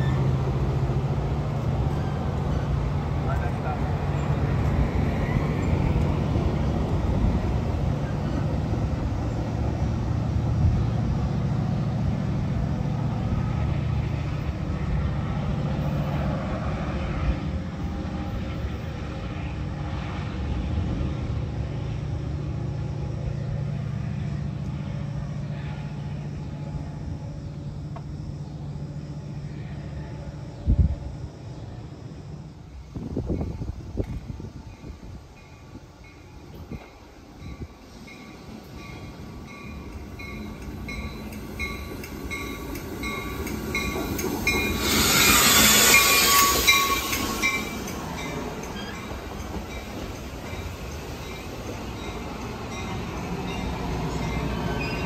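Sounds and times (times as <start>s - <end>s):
diesel locomotive droning: 0.0s - 55.0s
wheels rumbling on rails: 0.0s - 55.0s.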